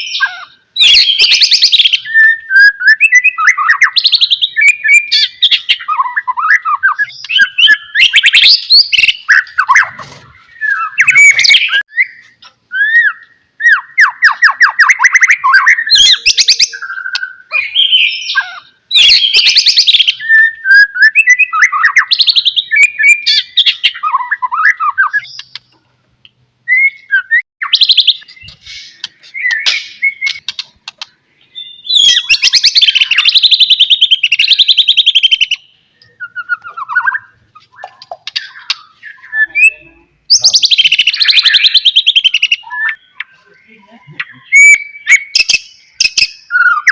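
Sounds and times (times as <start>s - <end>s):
songbird whistling and trilling: 0.0s - 25.7s, 26.6s - 30.6s, 31.4s - 46.9s.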